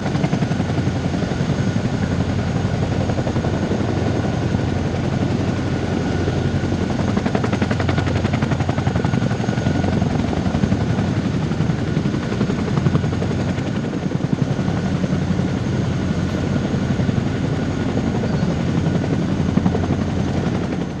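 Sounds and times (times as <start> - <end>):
helicopter rotor beating: 0.0 - 21.0
high turbine whine: 0.0 - 21.0.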